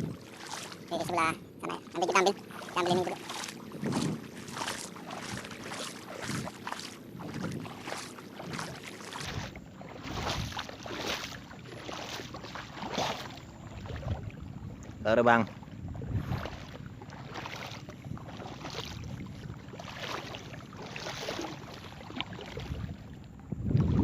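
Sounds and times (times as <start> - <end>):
person wading through water: 0.0 - 24.0.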